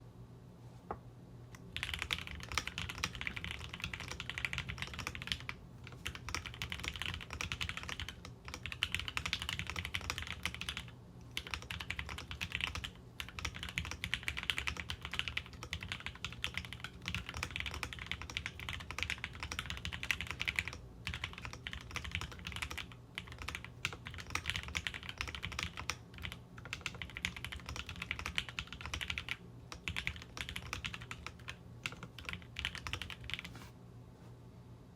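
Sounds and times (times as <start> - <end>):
typing on mechanical keyboard: 1.6 - 33.5.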